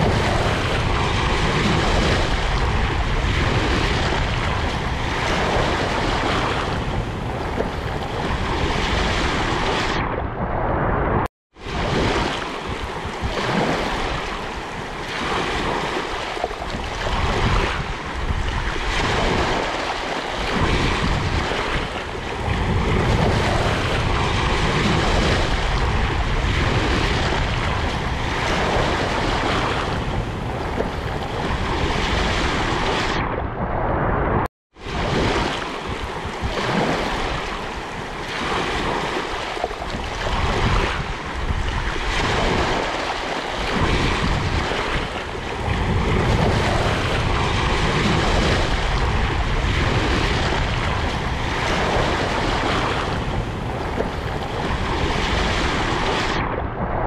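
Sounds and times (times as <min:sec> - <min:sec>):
small waves breaking on shore: 0:00.0 - 0:10.0, 0:11.6 - 0:33.2, 0:34.8 - 0:56.4
wind rumbling on microphone: 0:00.0 - 0:57.0.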